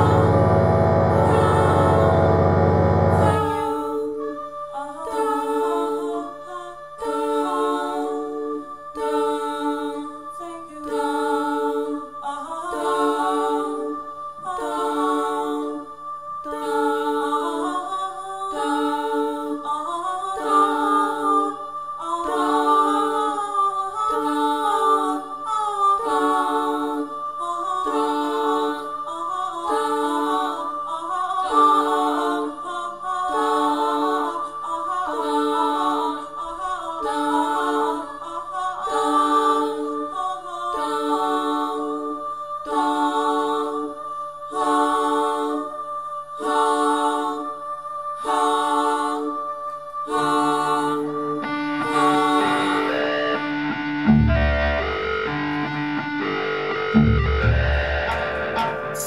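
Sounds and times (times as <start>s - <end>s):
women's choir singing: 0.0s - 59.0s.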